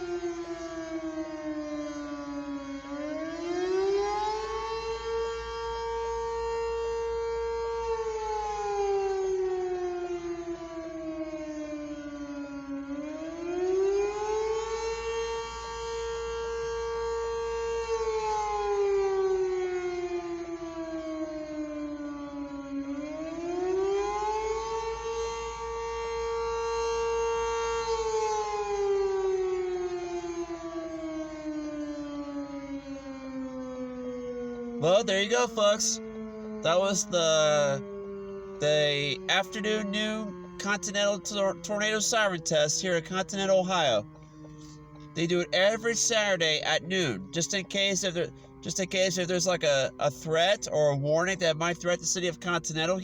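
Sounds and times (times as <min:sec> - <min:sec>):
tornado siren wailing: 0:00.0 - 0:53.0.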